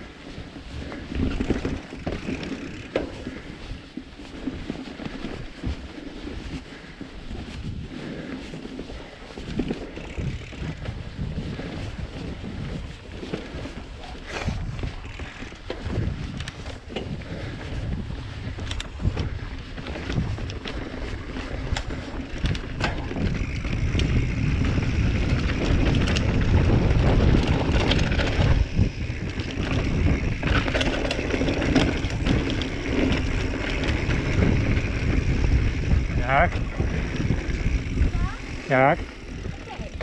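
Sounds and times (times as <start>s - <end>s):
bike tyres rumbling on dirt: 0.0s - 40.0s
wind buffeting microphone: 0.0s - 40.0s
bike chain and frame clattering: 0.1s - 40.0s.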